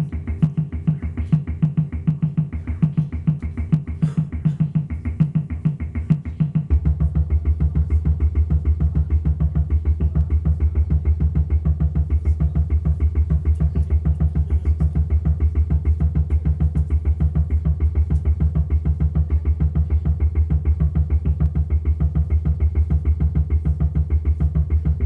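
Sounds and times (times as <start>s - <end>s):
electronic music pulsing beat: 0.0s - 25.0s
low bass pulse: 0.0s - 25.0s.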